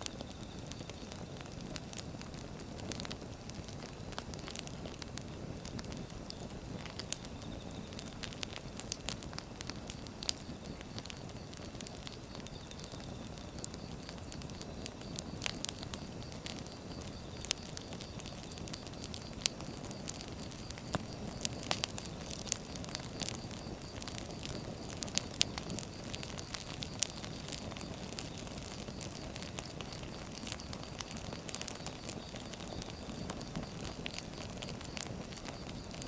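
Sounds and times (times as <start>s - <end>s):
firewood burning and crackling: 0.0s - 36.0s.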